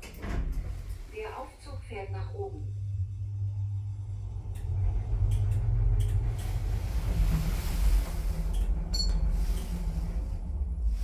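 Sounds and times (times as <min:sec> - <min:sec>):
lift car rumble and hum: 0:00.0 - 0:11.0.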